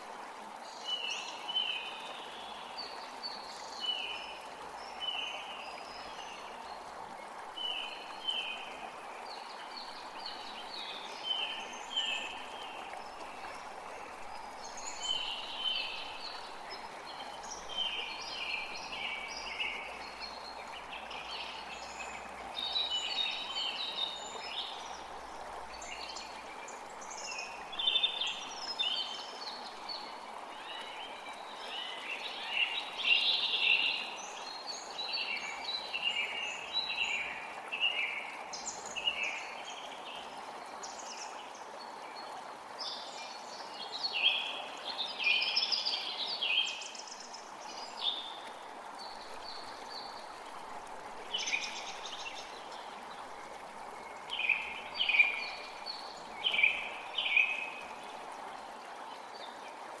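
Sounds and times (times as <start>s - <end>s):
creek rushing: 0.0s - 60.0s.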